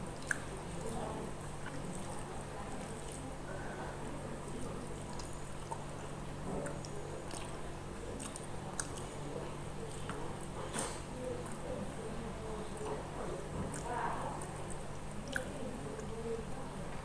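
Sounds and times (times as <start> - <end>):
person chewing with wet mouth clicks: 0.0 - 3.3, 4.5 - 11.8, 12.6 - 16.2.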